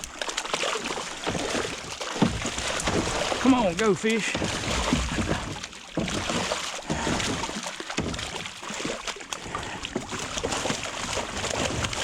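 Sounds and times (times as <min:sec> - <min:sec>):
fish flopping knocks and thumps: 0:00.0 - 0:12.0
water splashing and sloshing: 0:00.0 - 0:12.0.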